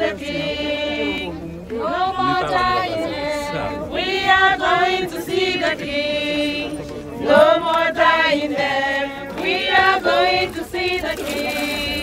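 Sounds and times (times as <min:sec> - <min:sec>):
group singing a hymn: 0:00.0 - 0:12.0.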